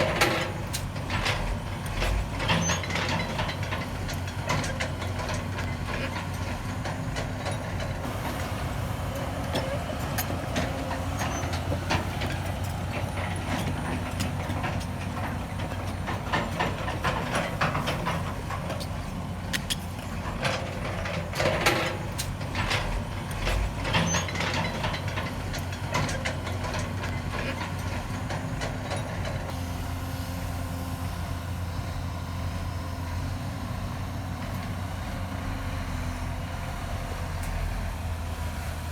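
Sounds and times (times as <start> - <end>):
diesel machinery running: 0.0 - 38.9.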